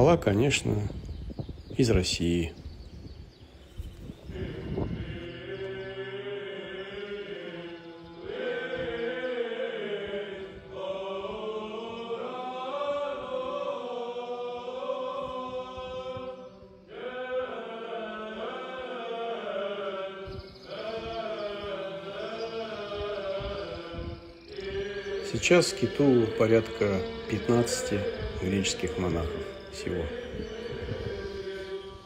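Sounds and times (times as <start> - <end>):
choral chanting: 3.8 - 32.0.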